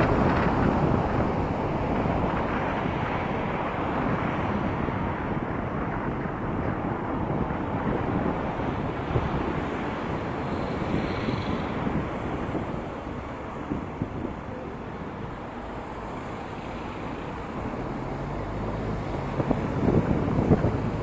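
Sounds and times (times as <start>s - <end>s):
car road noise: 0.0s - 21.0s
wind rushing over microphone: 0.0s - 21.0s.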